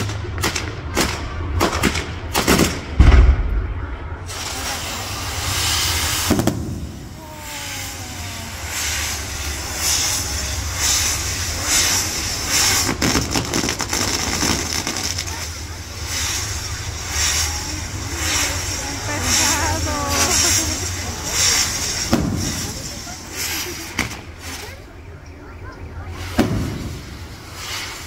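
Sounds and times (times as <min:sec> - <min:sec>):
fireworks bangs: 0:00.0 - 0:28.0
hissing firework fountains: 0:00.0 - 0:28.0
heavy firework boom: 0:02.5 - 0:24.8, 0:26.2 - 0:27.7.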